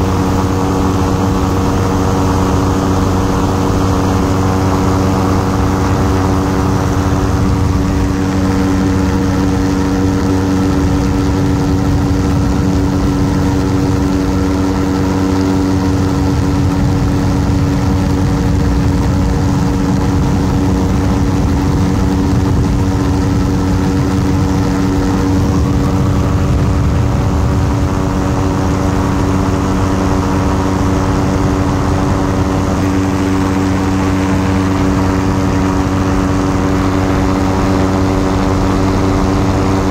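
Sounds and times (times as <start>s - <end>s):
ultralight aircraft engine and propeller: 0.0s - 39.9s.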